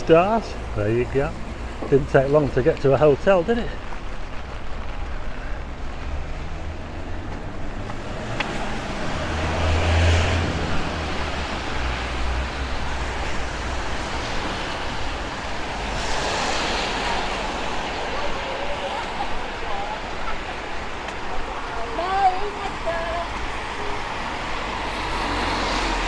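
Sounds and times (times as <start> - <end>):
car passing: 0.0 - 26.0
tyre hiss on wet road: 0.3 - 26.0.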